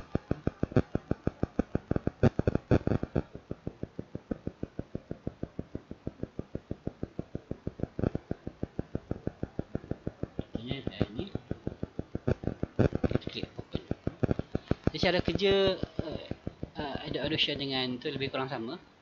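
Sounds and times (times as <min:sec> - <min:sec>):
steady rapid pulsing: 0:00.0 - 0:19.0.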